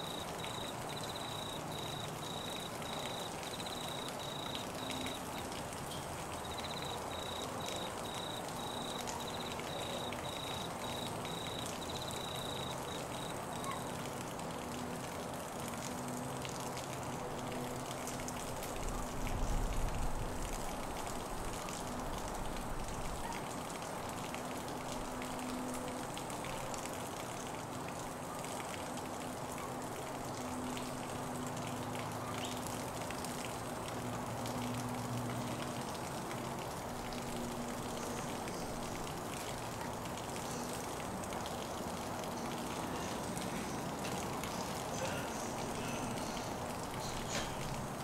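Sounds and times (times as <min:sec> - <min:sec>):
rain falling on trees and grass: 0:00.0 - 0:48.0.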